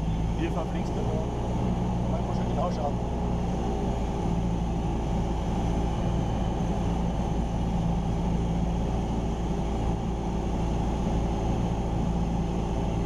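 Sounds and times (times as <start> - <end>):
aircraft engine and propeller droning: 0.0 - 13.0.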